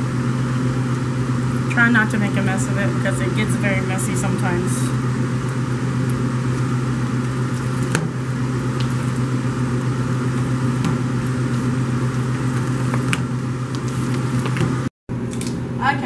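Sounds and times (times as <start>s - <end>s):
kitchen machinery hum: 0.0s - 16.0s.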